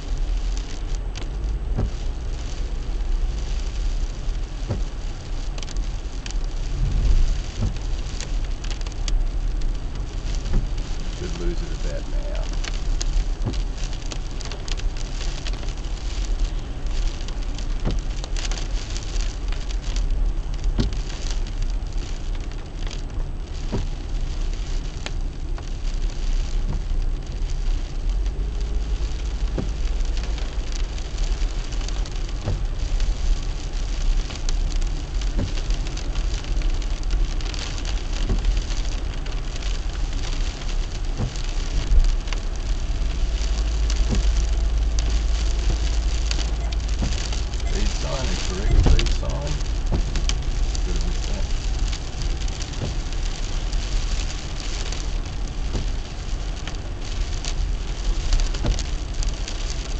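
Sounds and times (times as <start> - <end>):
rain on a car: 0.0 - 59.9
road and engine rumble: 0.0 - 59.9.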